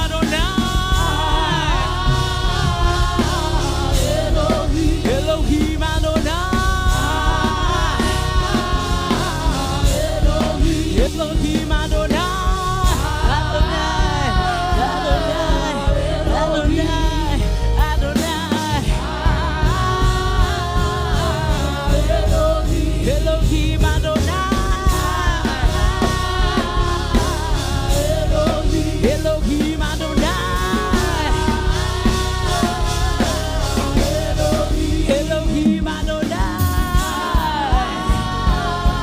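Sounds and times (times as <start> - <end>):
band with bass and drums: 0.0 - 39.0
person singing: 0.0 - 39.0.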